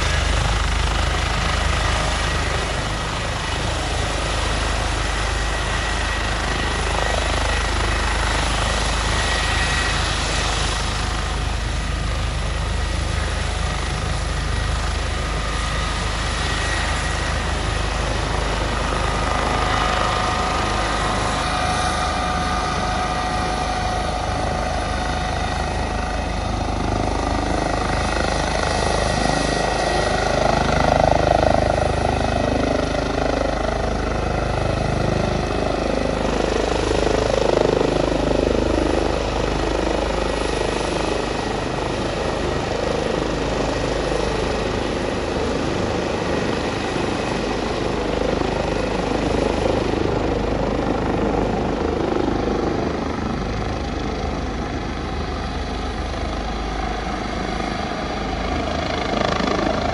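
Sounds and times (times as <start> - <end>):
helicopter rotor and turbine: 0.0 - 59.9.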